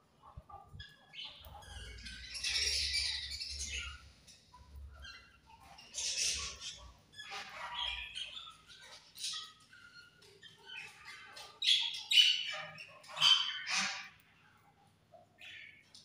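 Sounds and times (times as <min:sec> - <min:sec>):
budgerigars chirping and chattering: 0:00.2 - 0:14.6, 0:15.3 - 0:16.0.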